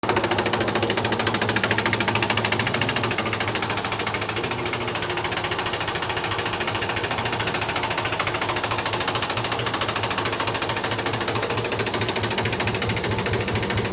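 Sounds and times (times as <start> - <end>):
diesel tractor engine idling: 0.0 - 13.9.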